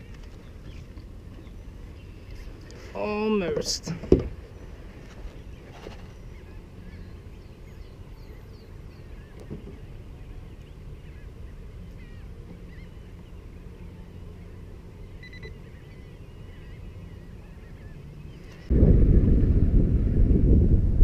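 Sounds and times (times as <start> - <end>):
birds chirping: 0.0 - 18.7
wind: 0.0 - 21.0.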